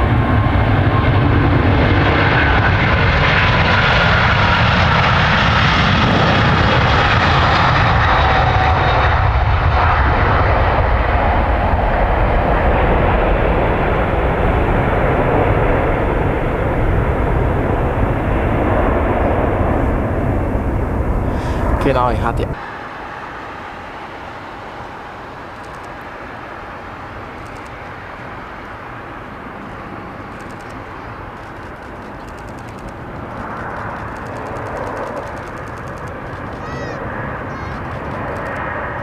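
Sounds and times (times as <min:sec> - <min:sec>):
jet engines passing with whine: 0:00.0 - 0:39.0.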